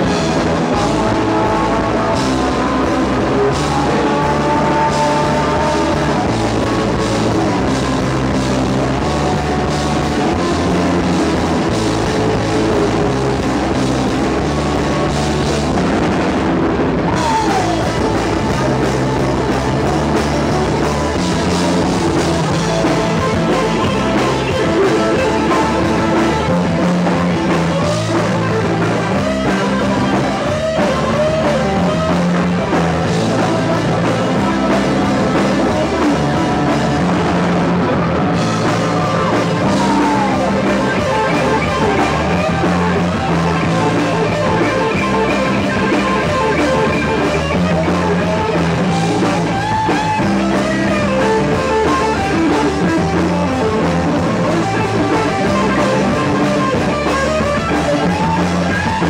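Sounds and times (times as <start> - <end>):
drum kit: 0.0 - 59.0
electric bass: 0.0 - 59.0
electric guitar lead lines: 0.0 - 59.0.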